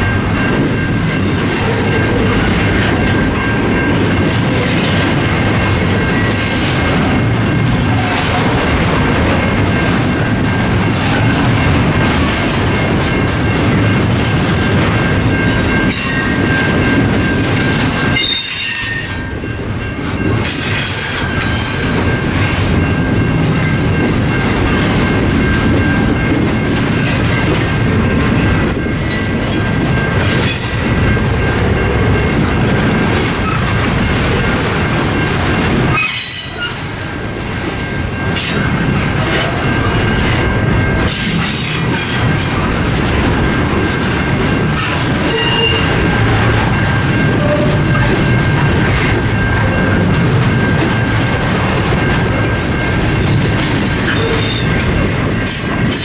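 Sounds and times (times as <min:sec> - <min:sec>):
crossing bells ringing: 0:00.0 - 0:56.0
train wheels rumbling on rails: 0:00.0 - 0:56.0.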